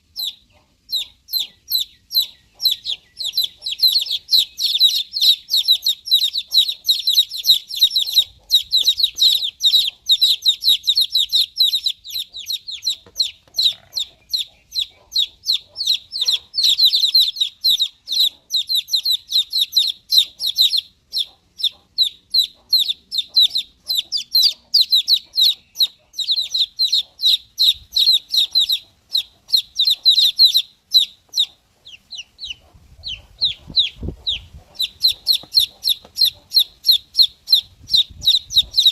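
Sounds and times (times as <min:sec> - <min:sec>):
baby chicks cheeping: 0:00.0 - 0:38.9.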